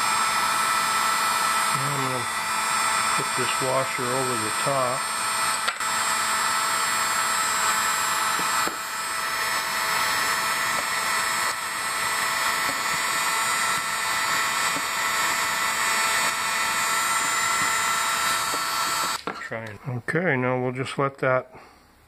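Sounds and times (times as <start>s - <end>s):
heat gun blowing with fan whine: 0.0s - 19.5s.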